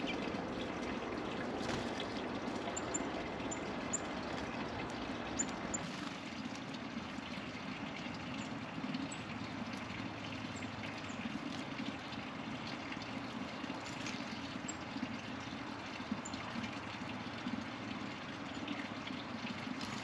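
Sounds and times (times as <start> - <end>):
running trickling water: 0.0 - 20.0.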